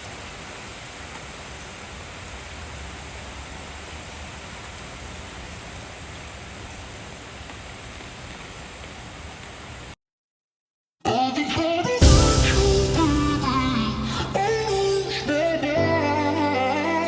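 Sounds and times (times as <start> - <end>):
steady rain falling: 0.0 - 10.0, 12.0 - 17.0.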